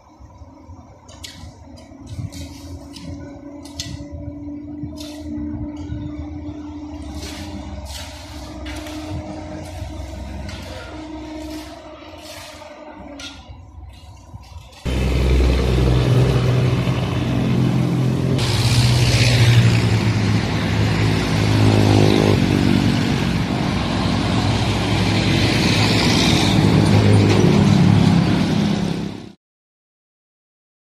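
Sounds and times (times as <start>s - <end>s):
road traffic passing: 0.0s - 29.4s
truck diesel engine hum: 0.0s - 29.4s.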